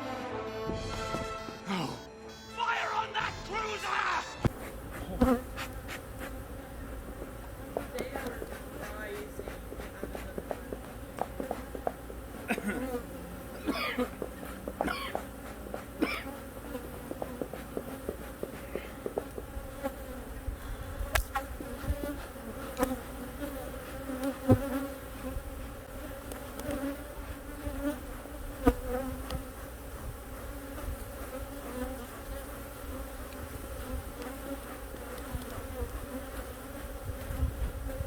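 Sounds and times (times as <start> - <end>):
honeybees buzzing: 3.6 - 38.0.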